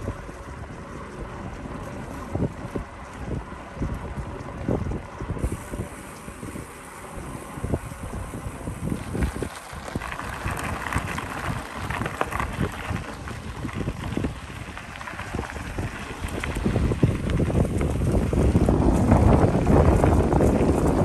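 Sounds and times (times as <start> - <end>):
bike rattling: 0.0 - 21.0
tyres crackling over gravel: 0.0 - 21.0
wind buffeting microphone: 0.0 - 21.0.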